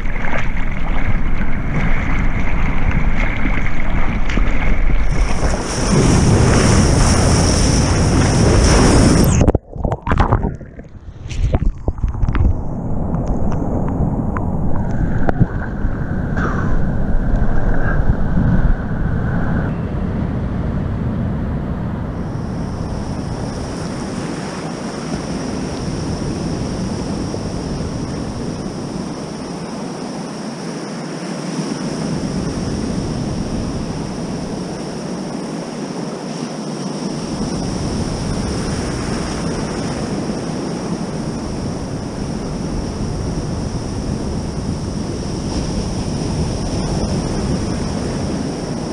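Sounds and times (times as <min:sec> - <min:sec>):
wind buffeting microphone: 0:00.0 - 0:29.5, 0:37.2 - 0:48.9
surf and breaking waves: 0:00.0 - 0:48.9.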